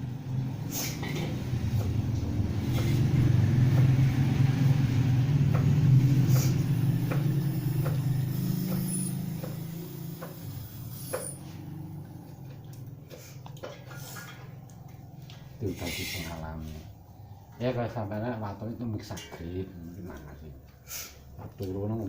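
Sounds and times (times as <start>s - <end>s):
vehicle engine rumble passing: 0.0s - 22.0s.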